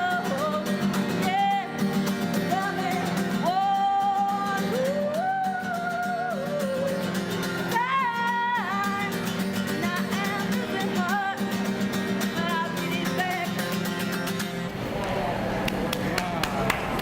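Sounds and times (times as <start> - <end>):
woman singing: 0.0 - 14.2
strummed acoustic guitar: 0.0 - 15.0.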